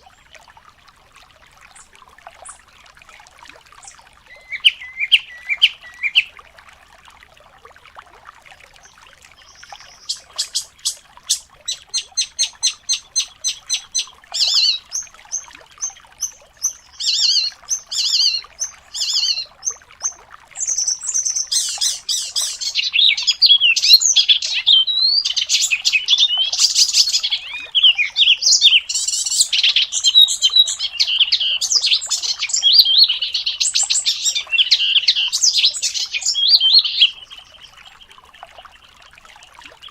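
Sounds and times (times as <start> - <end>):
songbird singing: 3.8 - 6.4, 8.8 - 39.1.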